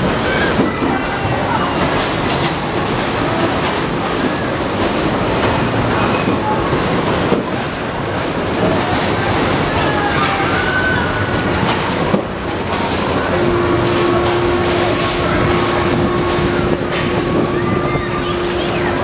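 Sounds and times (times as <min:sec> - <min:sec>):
ride machinery rumbling: 0:00.0 - 0:19.0.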